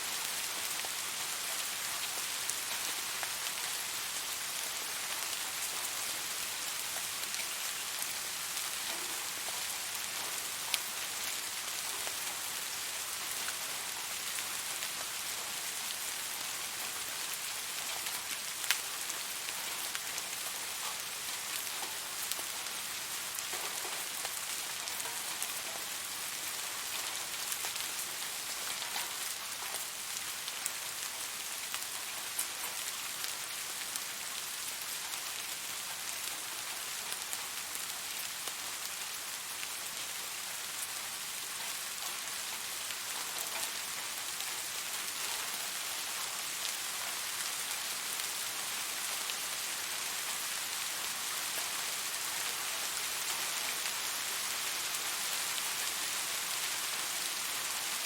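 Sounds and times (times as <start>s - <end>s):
steady rain hiss: 0.0s - 58.0s
raindrops ticking close by: 0.1s - 58.0s.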